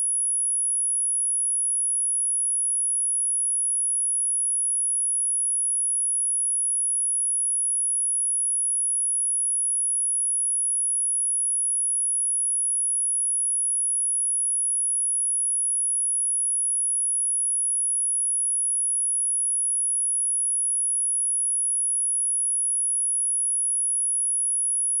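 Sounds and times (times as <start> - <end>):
high-pitched sine-wave test tone: 0.0 - 25.0.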